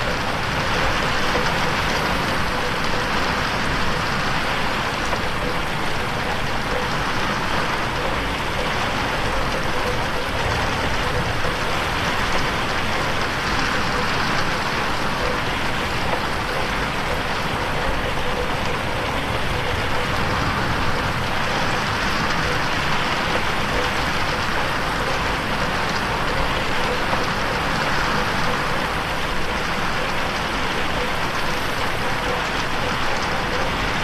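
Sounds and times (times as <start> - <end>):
heavy rain on a window: 0.0 - 34.0.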